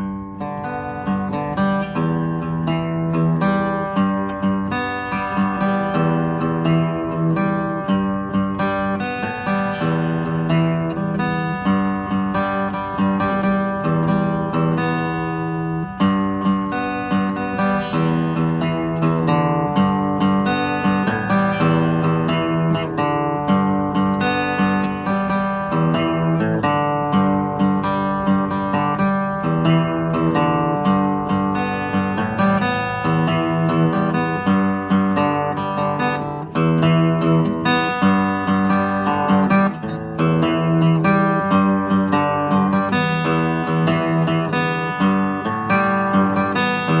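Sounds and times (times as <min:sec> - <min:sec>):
acoustic guitar chords: 0:00.0 - 0:47.0.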